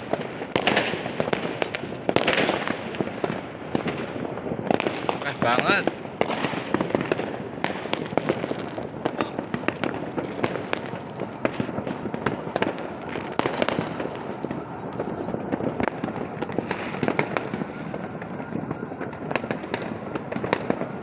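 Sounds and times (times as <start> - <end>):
firecracker crackling: 0.0 - 21.0
fireworks bangs and pops: 0.0 - 21.0.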